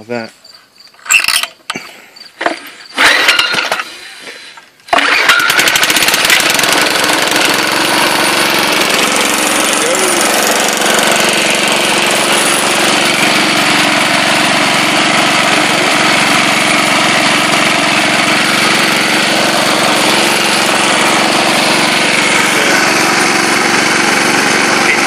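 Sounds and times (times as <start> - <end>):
lawn mower engine running: 2.4 - 25.0.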